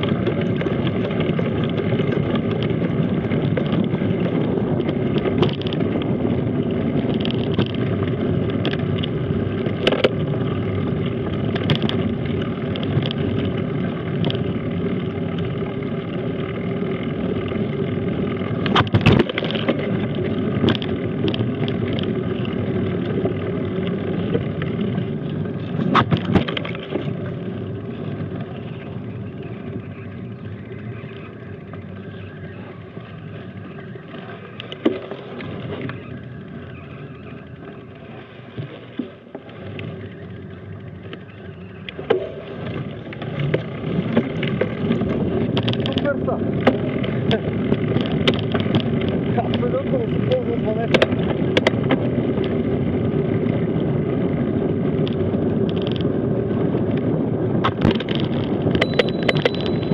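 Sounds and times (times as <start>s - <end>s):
bike frame rattle: 0.0s - 32.1s, 39.5s - 59.9s
bike tyres rumbling on gravel: 0.0s - 59.9s.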